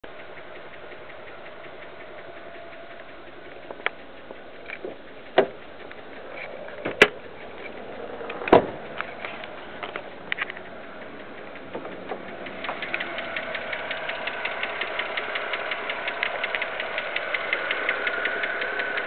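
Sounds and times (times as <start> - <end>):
car engine idling with ticking: 0.0 - 19.0
sharp engine clacks: 0.0 - 19.0.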